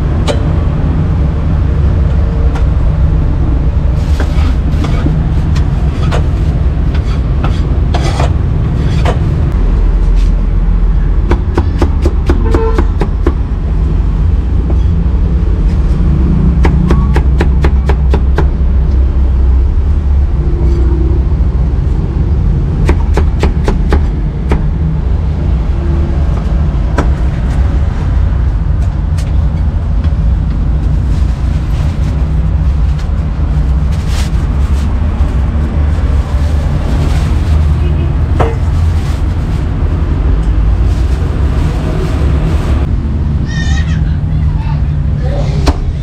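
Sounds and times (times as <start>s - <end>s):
street traffic rumble: 0.0s - 46.0s.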